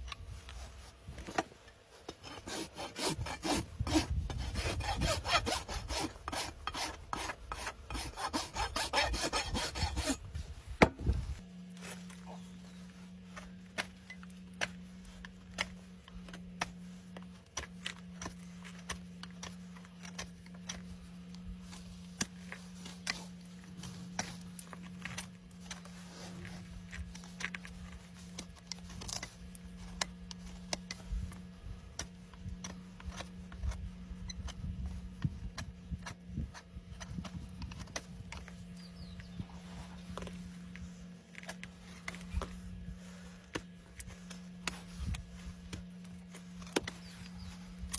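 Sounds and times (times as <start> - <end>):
hoof tools clicking and scraping: 0.0 - 47.9
low hum: 0.0 - 47.9.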